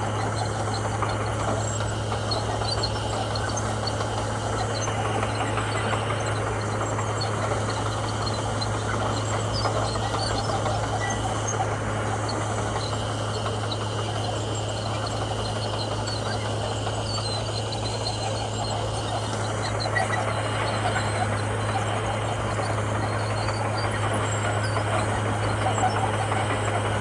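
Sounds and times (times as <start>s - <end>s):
bulldozer diesel engine droning: 0.0s - 27.0s.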